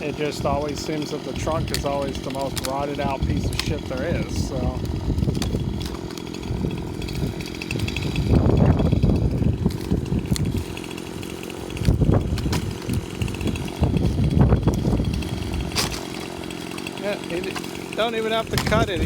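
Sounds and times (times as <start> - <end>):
chainsaw cutting tree trunk: 0.0 - 19.0.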